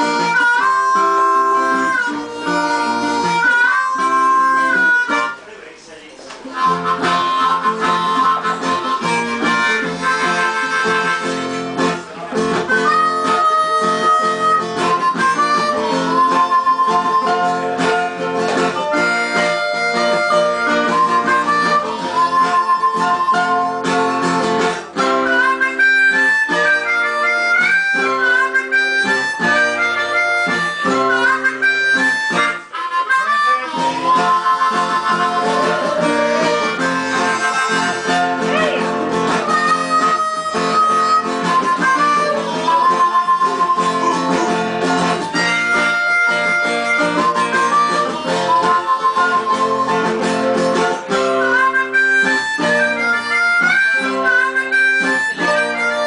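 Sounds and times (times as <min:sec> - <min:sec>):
harmonica melody: 0:00.0 - 0:56.0
strummed guitars: 0:00.0 - 0:56.0.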